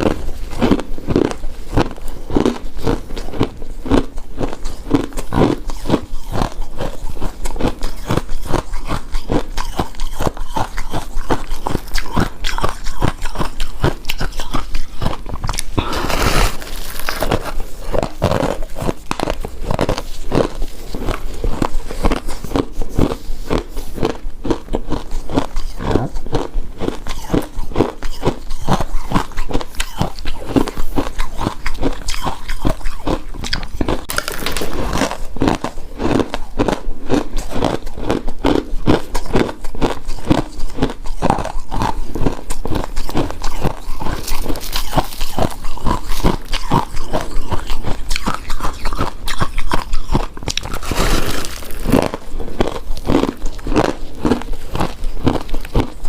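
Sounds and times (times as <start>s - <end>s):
ice being crunched in mouth: 0.0s - 56.0s.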